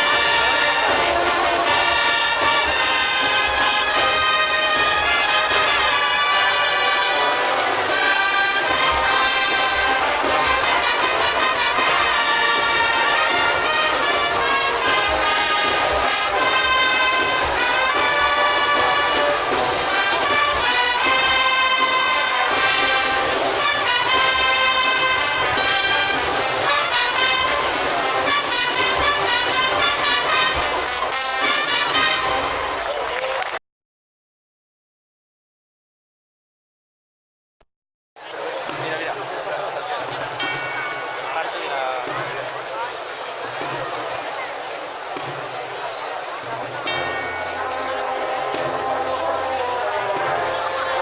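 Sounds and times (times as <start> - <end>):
brass band playing a march: 0.0 - 33.0, 38.7 - 51.0.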